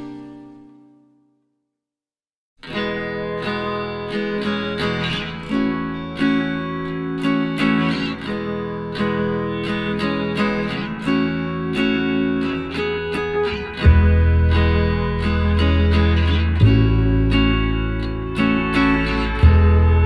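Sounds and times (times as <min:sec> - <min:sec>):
acoustic guitar music: 0:00.0 - 0:01.4, 0:02.6 - 0:20.0.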